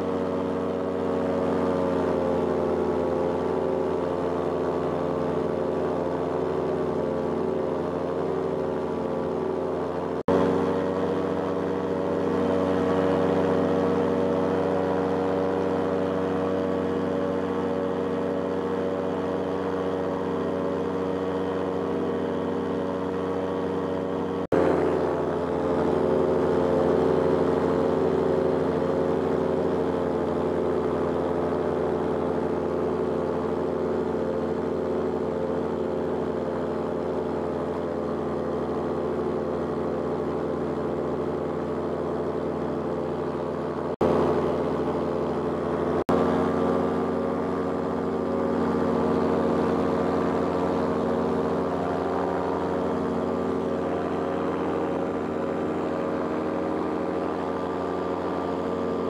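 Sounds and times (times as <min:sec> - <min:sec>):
paramotor engine drone: 0:00.0 - 0:59.0.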